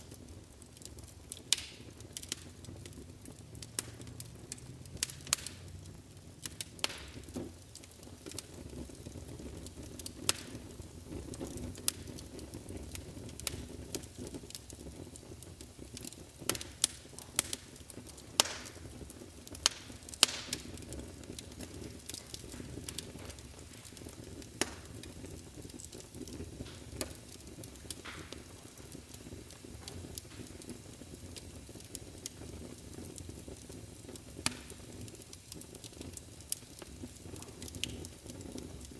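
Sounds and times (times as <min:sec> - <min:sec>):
fire crackling and popping: 0:00.0 - 0:38.9
flames rumbling: 0:00.0 - 0:38.9.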